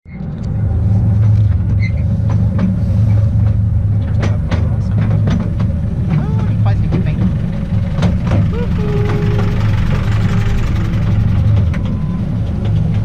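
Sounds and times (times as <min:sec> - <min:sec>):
train rumbling: 0:00.1 - 0:13.0
wheels clicking on track: 0:01.1 - 0:13.0.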